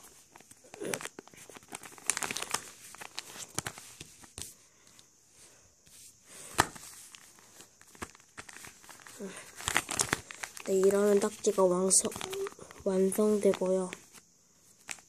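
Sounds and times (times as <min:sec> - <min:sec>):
sharp paper crack: 0:00.0 - 0:04.5, 0:06.4 - 0:14.2, 0:14.8 - 0:15.0
paper crinkling and rustling: 0:00.0 - 0:05.0, 0:06.4 - 0:15.0.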